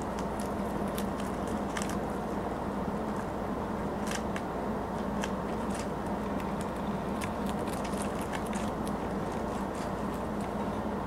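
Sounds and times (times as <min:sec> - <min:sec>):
low hum and hiss: 0:00.0 - 0:11.0
rabbit chewing kale: 0:00.0 - 0:11.0.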